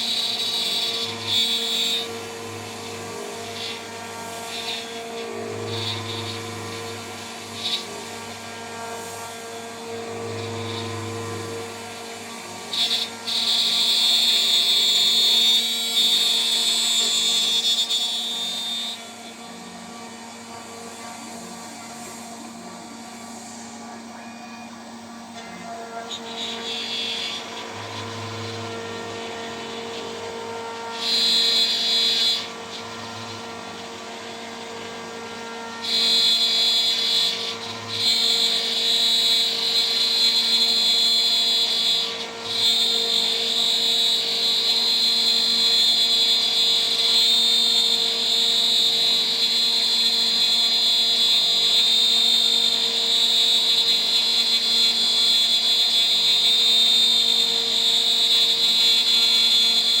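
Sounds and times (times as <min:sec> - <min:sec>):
end mill cutting: 0:00.0 - 1:00.0.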